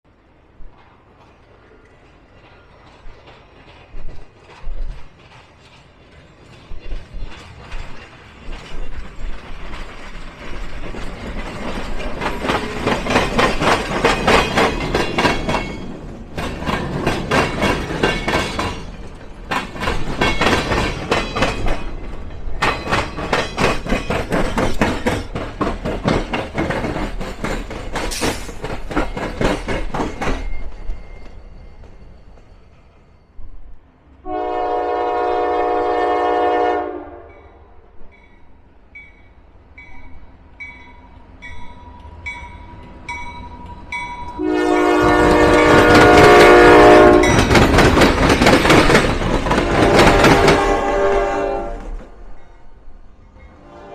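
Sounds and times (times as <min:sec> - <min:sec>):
train wheels clacking over rails: 0:00.7 - 0:33.1, 0:41.5 - 0:52.2.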